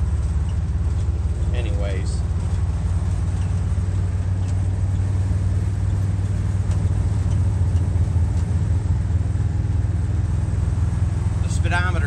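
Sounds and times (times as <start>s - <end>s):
pickup truck engine drone: 0.0s - 12.0s
road noise: 0.0s - 12.0s.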